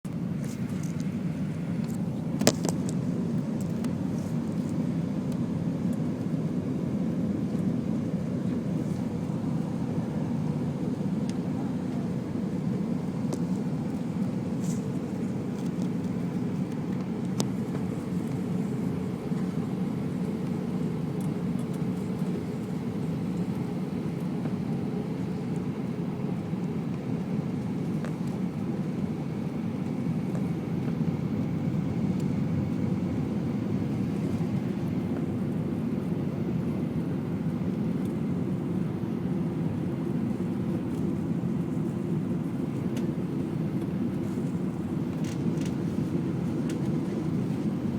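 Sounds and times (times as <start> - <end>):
airplane cabin engine roar: 0.1 - 47.9.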